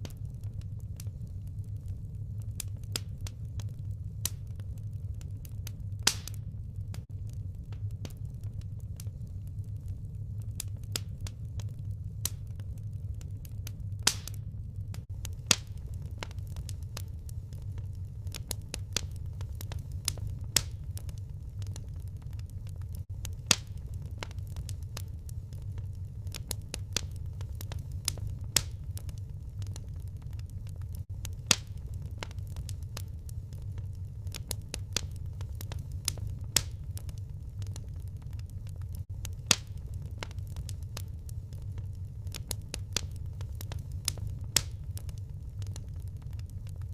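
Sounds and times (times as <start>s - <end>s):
firewood popping: 0.0s - 46.9s
low rumble: 0.0s - 46.9s
wood fire crackling: 0.0s - 46.9s.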